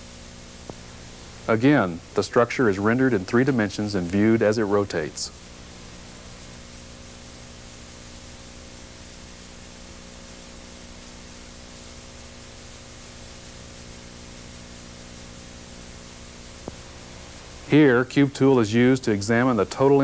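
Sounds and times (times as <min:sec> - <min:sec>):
low electrical hum: 0:00.0 - 0:20.0
tape hiss: 0:00.0 - 0:20.0.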